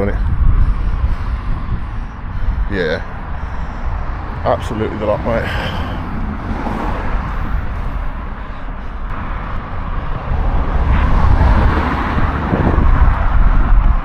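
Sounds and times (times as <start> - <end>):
road traffic passing: 0.0 - 14.0
vehicle passing close: 0.0 - 14.0.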